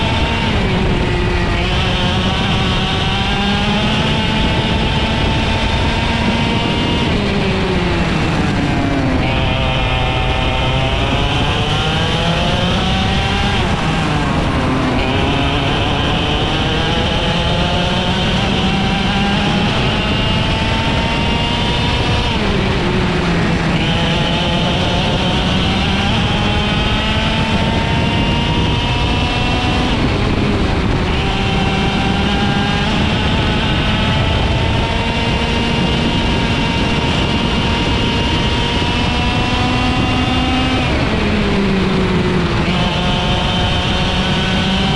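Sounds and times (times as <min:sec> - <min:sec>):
kart engine revving: 0:00.0 - 0:44.9.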